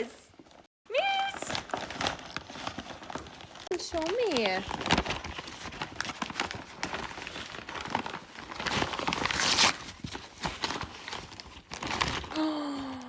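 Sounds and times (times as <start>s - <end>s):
packaging crinkling and tearing: 0.9s - 13.0s.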